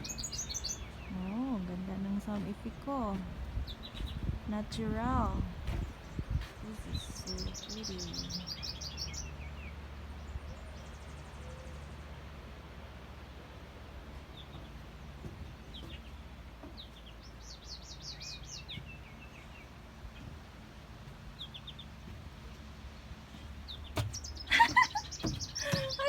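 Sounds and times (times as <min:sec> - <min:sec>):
songbirds chirping and singing: 0:00.0 - 0:12.3, 0:14.2 - 0:26.0.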